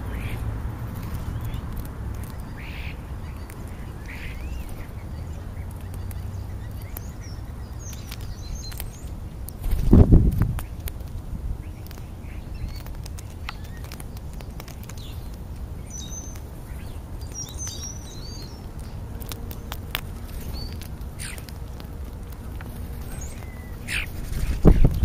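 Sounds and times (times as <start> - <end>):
low background rumble: 0.0 - 25.0
starlings chirping and whistling: 1.1 - 9.9, 11.6 - 21.5, 23.0 - 25.0.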